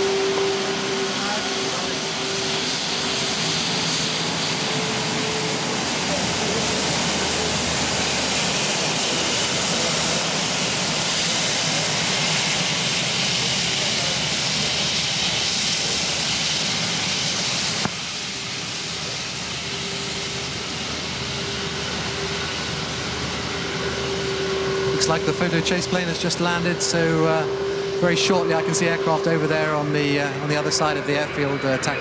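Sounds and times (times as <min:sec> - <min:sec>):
jet engine noise with hiss: 0:00.0 - 0:32.0.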